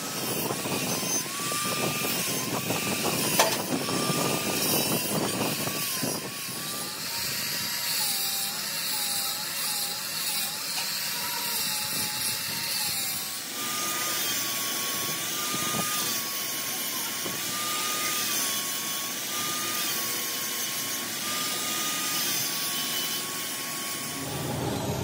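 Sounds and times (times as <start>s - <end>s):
angle grinder grinding steel: 0.0s - 25.0s.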